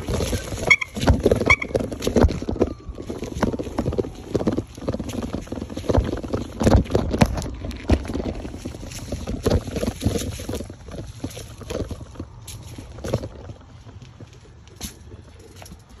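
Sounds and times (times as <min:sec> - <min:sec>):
bike knocks and rattles: 0:00.0 - 0:16.0
bike tyres rumbling on ground: 0:00.0 - 0:16.0.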